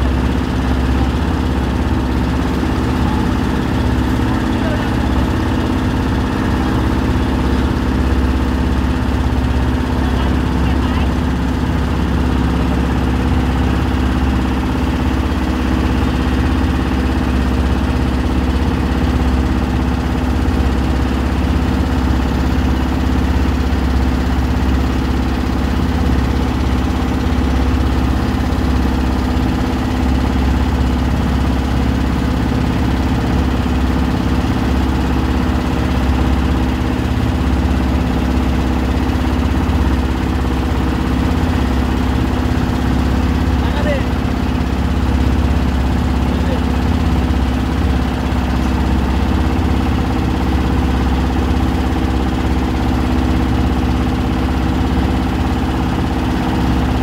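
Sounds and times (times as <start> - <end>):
boat engine drone: 0.0 - 57.0
water rushing along hull: 0.0 - 57.0.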